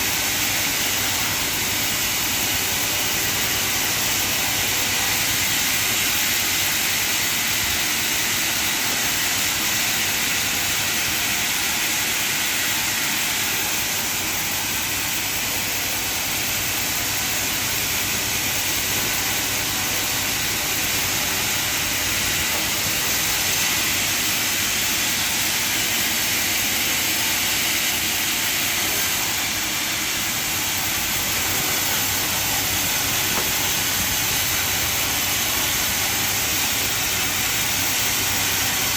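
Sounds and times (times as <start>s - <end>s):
sawmill machinery hissing: 0.0s - 38.9s.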